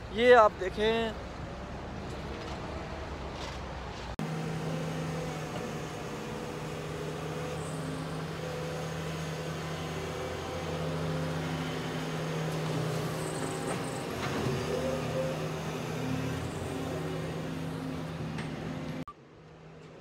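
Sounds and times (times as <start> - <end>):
diesel engine hum: 0.0 - 19.8.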